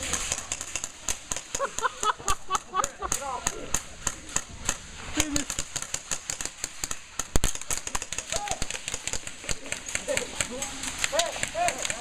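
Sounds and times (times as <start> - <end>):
airsoft rifles firing: 0.0 - 12.0.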